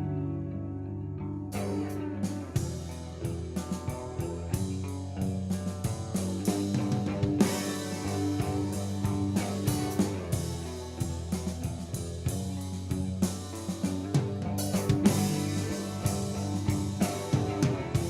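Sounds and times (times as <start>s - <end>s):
bass guitar: 0.0s - 18.0s
electric guitar: 0.0s - 18.0s
drum kit: 1.5s - 18.0s.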